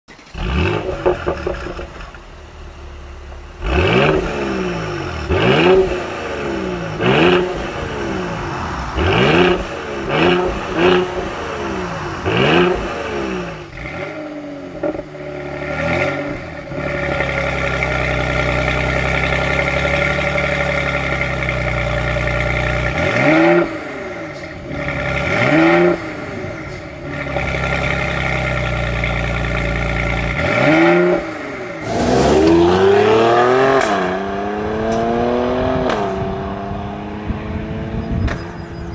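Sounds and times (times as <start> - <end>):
car engine revving in blips: 0.1 - 2.4, 3.3 - 38.9.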